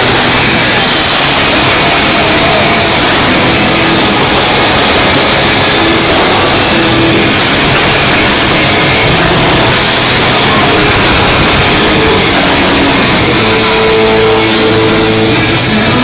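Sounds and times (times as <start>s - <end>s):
fireworks: 0.0s - 16.0s
music over stadium speakers: 0.0s - 16.0s.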